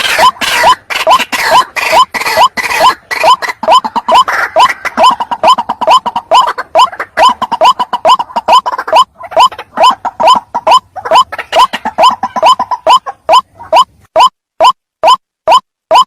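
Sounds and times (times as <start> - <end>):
bird calling in upward-sliding notes: 0.0 - 16.0.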